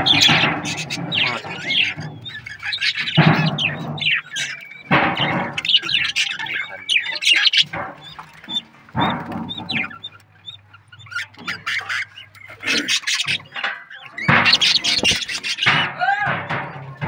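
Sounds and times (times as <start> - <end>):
budgerigars chirping and squawking: 0.0 - 17.0.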